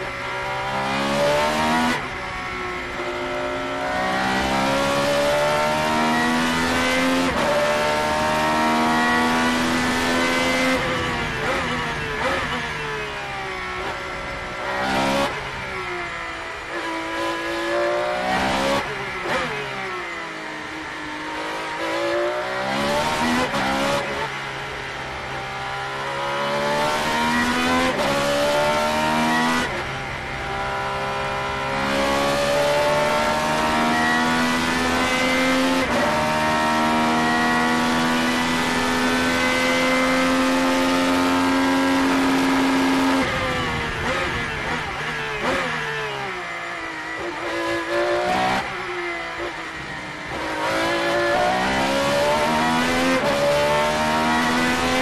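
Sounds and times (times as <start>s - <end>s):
race car engine revving: 2.9s - 12.9s, 16.7s - 19.7s, 21.4s - 55.0s.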